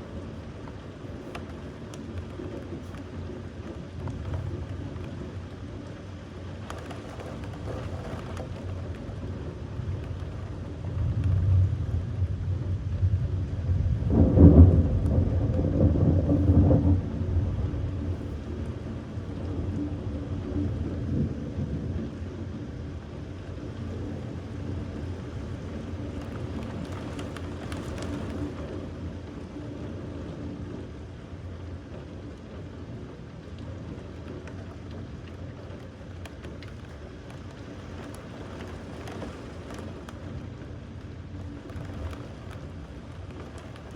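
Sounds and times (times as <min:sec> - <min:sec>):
rain falling: 0:00.0 - 0:43.9
thunder rumble: 0:00.0 - 0:43.9.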